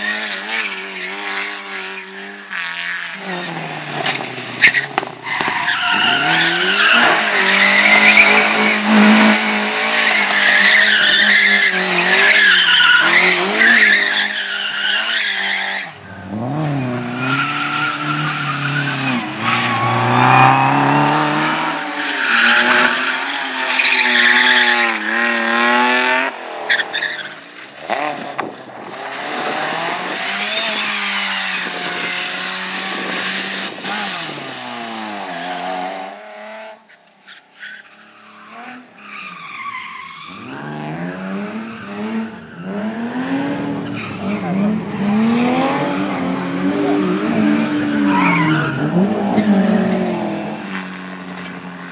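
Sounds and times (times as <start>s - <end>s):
tyres squealing and skidding: 0.0s - 35.8s, 36.7s - 51.9s
rally car engines revving: 0.0s - 36.9s, 37.9s - 51.9s.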